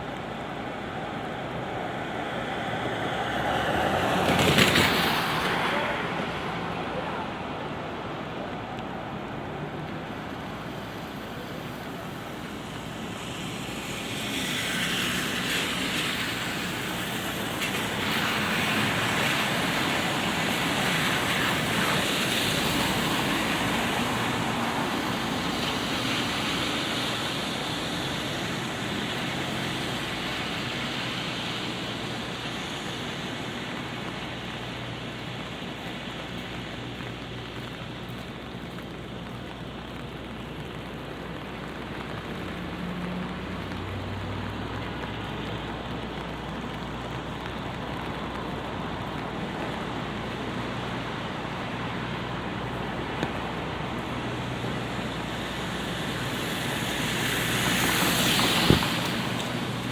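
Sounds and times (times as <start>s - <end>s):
rain patter: 0.0s - 59.9s
tyres hissing on wet road: 0.0s - 59.9s.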